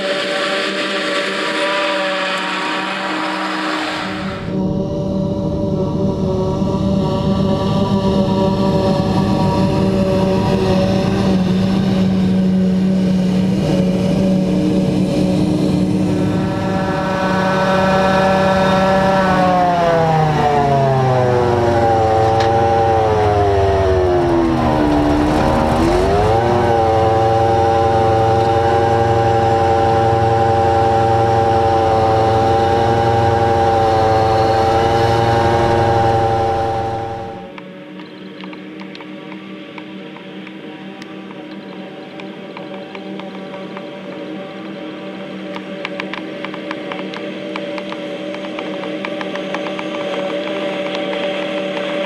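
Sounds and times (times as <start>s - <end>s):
harvester machine whine: 0.0s - 52.0s.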